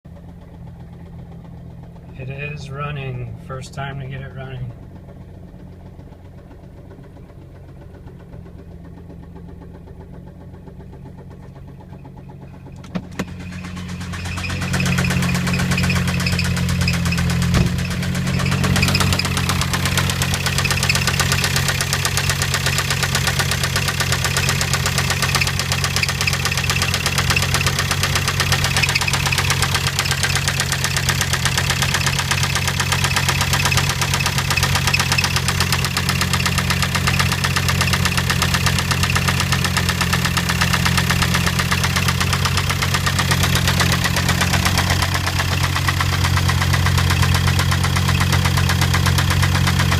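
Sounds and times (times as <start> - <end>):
diesel engine idling with knocking: 0.1 - 49.9.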